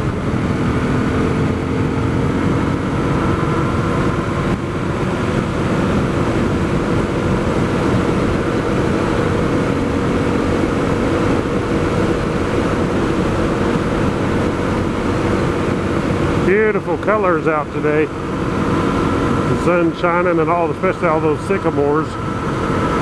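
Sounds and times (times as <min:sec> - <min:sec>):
motorcycle engine cruising: 0:00.0 - 0:23.0
wind rush on microphone: 0:00.0 - 0:23.0.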